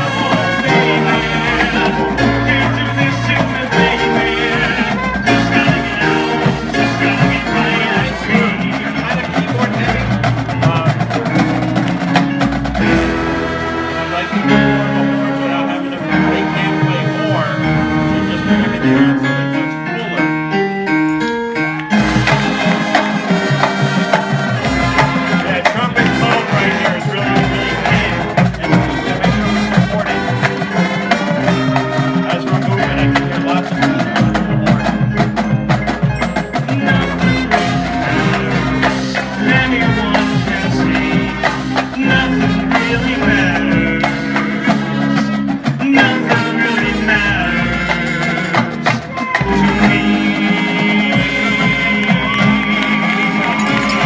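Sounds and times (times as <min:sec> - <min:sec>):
marching band playing: 0:00.0 - 0:54.0.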